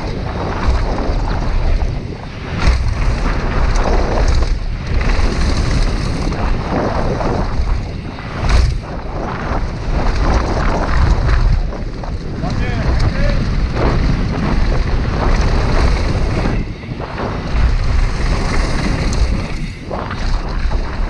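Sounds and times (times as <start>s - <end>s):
bike rattling: 0.0s - 21.0s
tyres rumbling on dirt: 0.0s - 21.0s
wind buffeting microphone: 0.0s - 21.0s.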